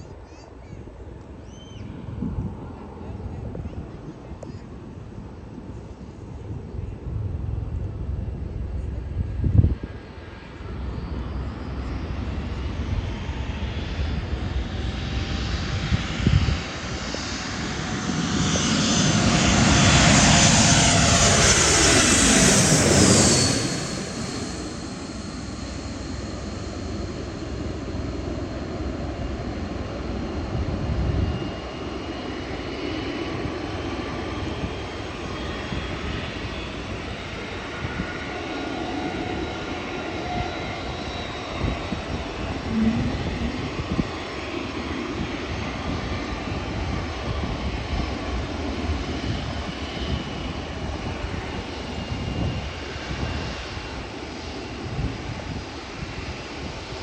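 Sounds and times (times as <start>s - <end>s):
airliner engine passing overhead: 0.0s - 57.0s.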